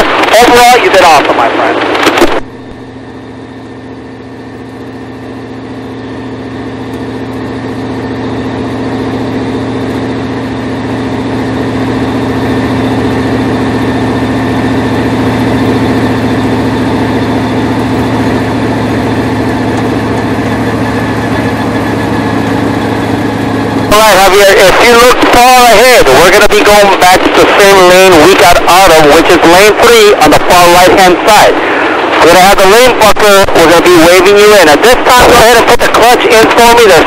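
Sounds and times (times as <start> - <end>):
race car engine cruising: 2.6 - 37.0.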